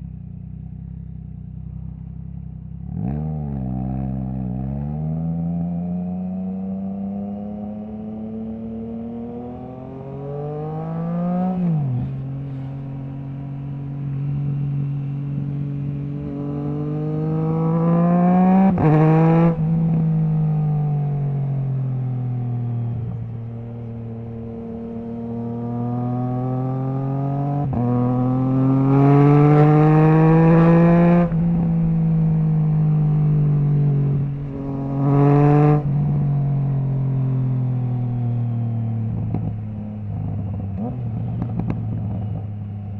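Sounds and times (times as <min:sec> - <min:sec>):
motorcycle engine accelerating hard: 0:00.6 - 0:42.9.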